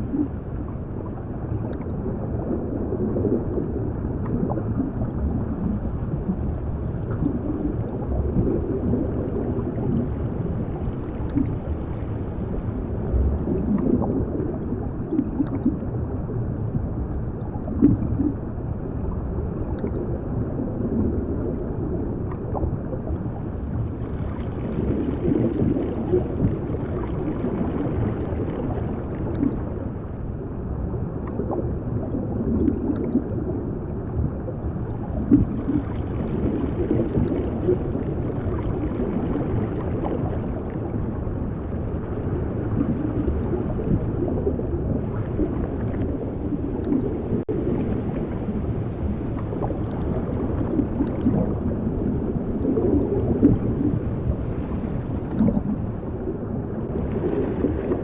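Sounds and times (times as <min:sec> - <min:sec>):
muffled underwater rush: 0:00.0 - 0:58.0
water bubbling and gurgling: 0:00.0 - 0:58.0.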